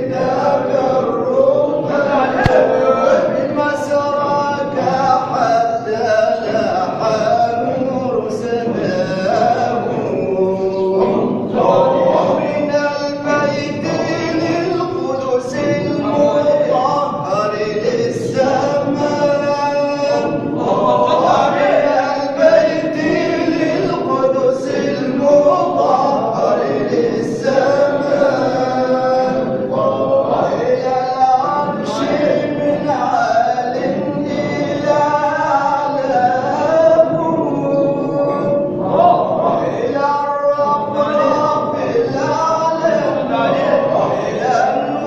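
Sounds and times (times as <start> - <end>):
men chanting in chorus: 0.0 - 45.0.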